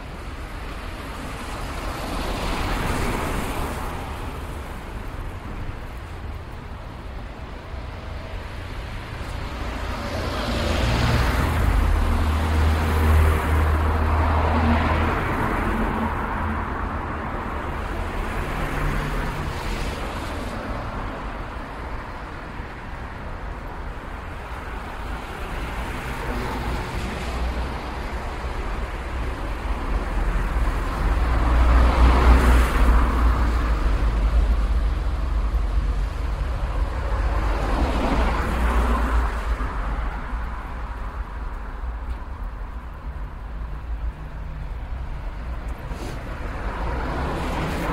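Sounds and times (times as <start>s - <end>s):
cars driving past: 7.8s - 23.0s, 23.9s - 47.9s.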